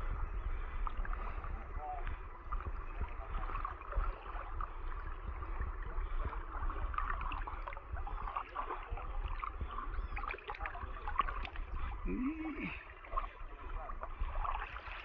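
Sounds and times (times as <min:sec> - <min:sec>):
steady low rumble: 0:00.0 - 0:15.0
water sloshing and gurgling: 0:00.0 - 0:15.0
small splashes: 0:00.9 - 0:15.0.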